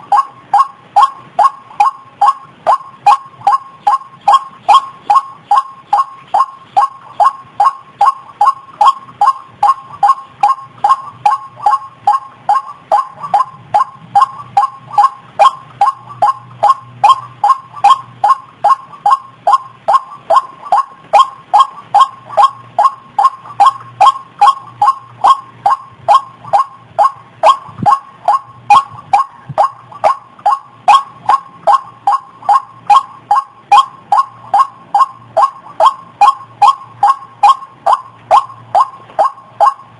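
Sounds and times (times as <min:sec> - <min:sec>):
waterhen call: 0:00.0 - 0:39.9.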